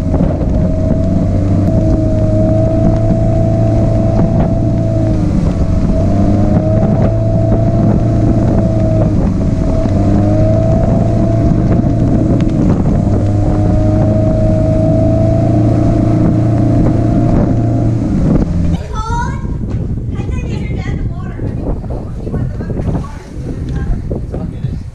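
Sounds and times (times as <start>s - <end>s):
wake rushing: 0.0s - 20.7s
motorboat engine droning: 0.0s - 22.0s
wind on microphone: 0.0s - 24.9s.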